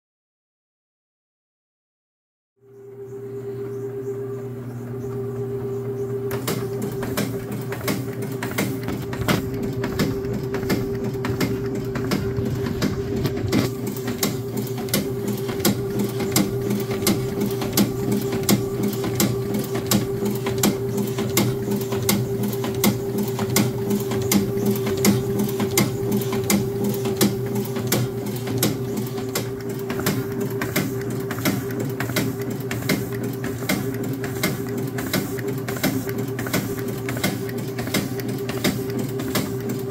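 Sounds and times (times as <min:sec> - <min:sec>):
numbering machine running: 0:02.6 - 0:39.9.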